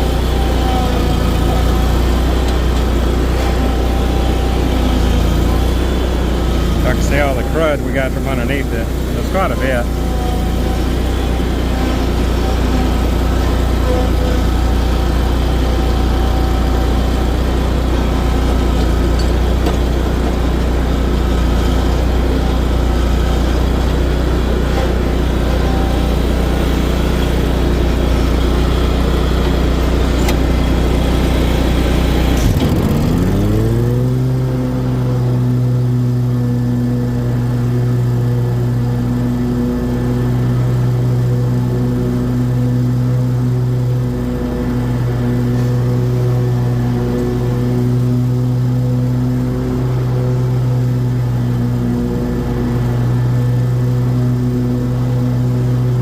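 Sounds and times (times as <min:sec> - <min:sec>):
lawnmower engine running: 0:00.0 - 0:56.0.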